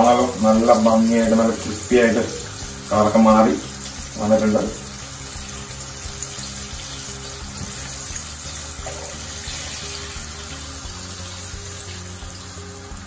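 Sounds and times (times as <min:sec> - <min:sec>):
chicken sizzling in hot oil: 0:00.0 - 0:13.0
soft background music: 0:00.0 - 0:13.0.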